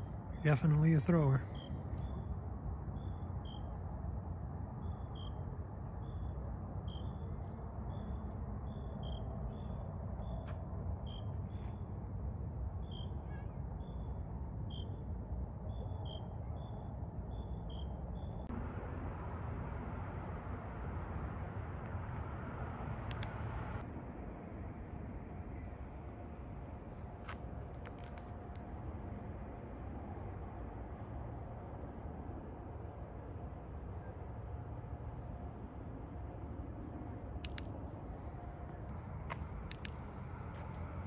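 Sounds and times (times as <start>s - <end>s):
outdoor rumble and hiss: 0.0s - 41.0s.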